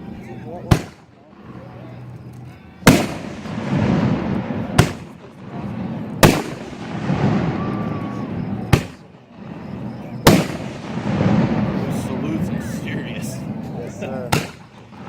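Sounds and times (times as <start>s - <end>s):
firework bangs with rumbling echo: 0.6s - 1.2s, 2.8s - 15.0s.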